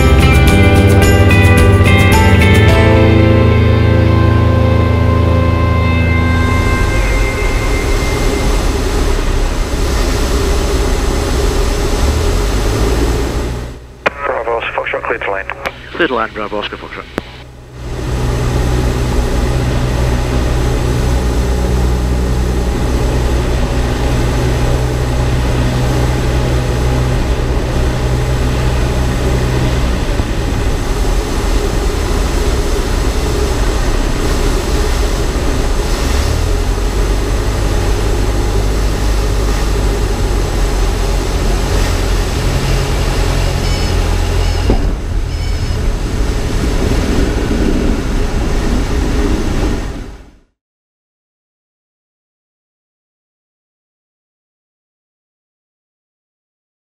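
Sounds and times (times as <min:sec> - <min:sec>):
propeller plane engine drone: 0:00.0 - 0:50.5.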